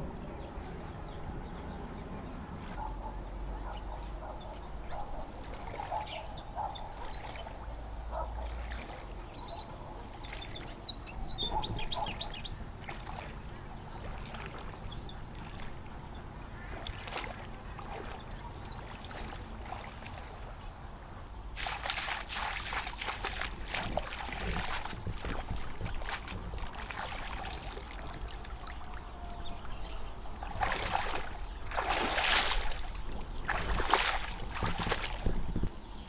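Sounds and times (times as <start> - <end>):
water splashing and trickling: 2.3 - 36.0.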